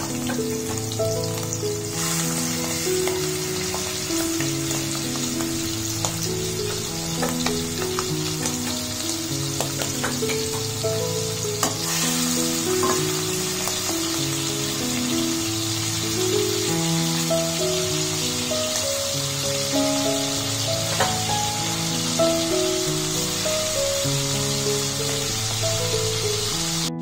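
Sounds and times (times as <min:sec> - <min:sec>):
oil popping and crackling: 0:00.0 - 0:27.0
prawns frying in hot oil: 0:00.0 - 0:27.0
soft background music: 0:00.0 - 0:27.0.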